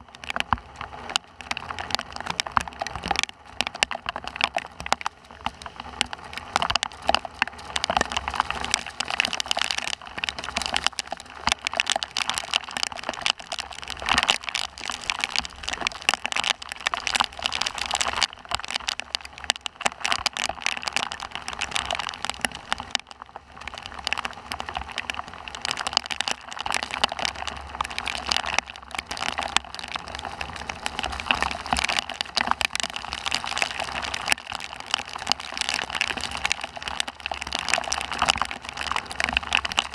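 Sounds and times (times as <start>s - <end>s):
heavy rain drops crackling: 0.0s - 39.9s.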